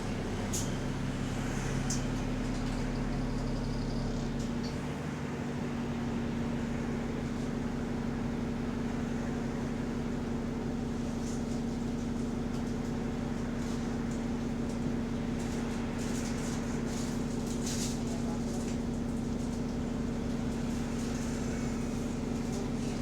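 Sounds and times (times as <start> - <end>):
bus engine droning: 0.0 - 23.0.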